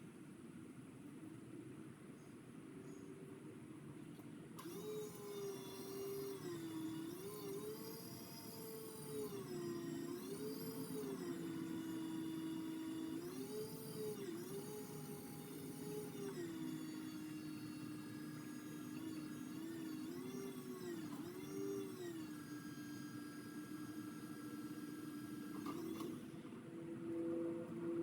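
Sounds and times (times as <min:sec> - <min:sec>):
motor whining: 0:04.6 - 0:28.0.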